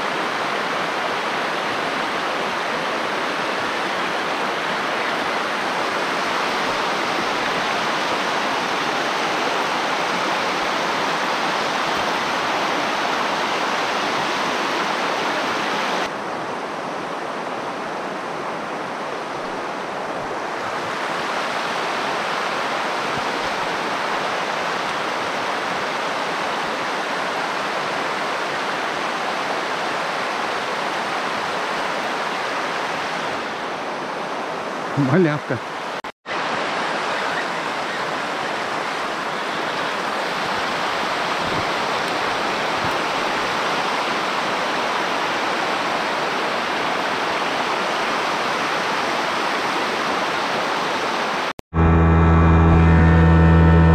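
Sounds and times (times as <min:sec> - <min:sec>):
river water rushing over stones: 0:00.0 - 0:51.5.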